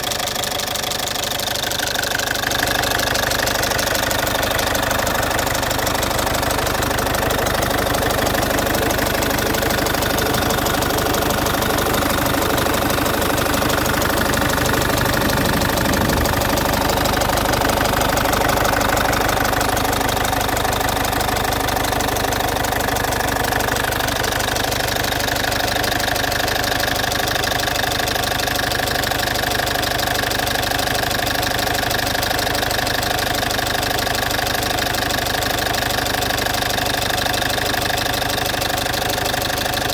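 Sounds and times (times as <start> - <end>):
diesel engine running: 0.0 - 39.9
engine ticking: 0.0 - 39.9.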